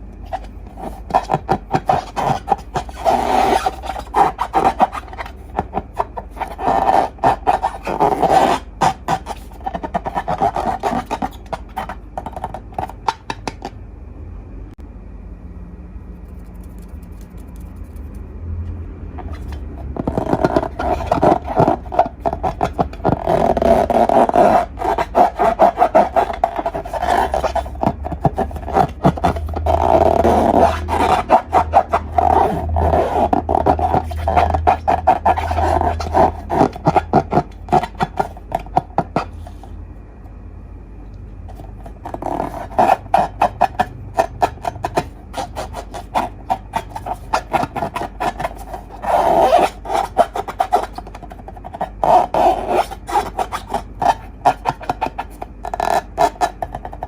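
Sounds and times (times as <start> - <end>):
slime crackling and rubbing: 0.3 - 13.6, 19.2 - 39.6, 41.5 - 57.0.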